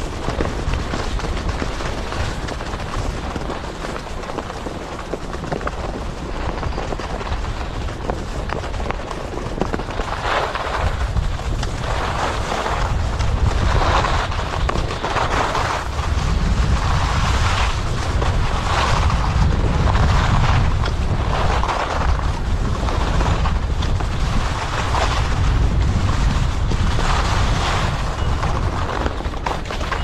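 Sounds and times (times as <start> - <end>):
low wind rumble: 0.0 - 30.0
skis scraping over snow: 0.0 - 30.0.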